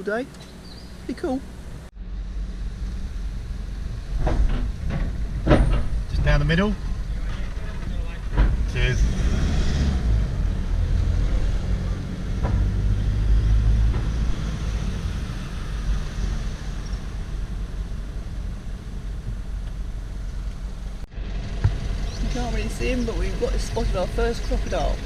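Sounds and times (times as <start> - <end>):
car rumbling slowly: 0.0 - 25.0.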